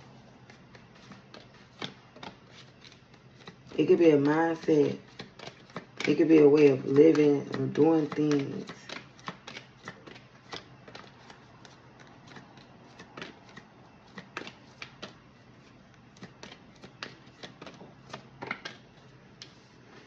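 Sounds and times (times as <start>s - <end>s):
hands handling cards: 0.4s - 20.0s.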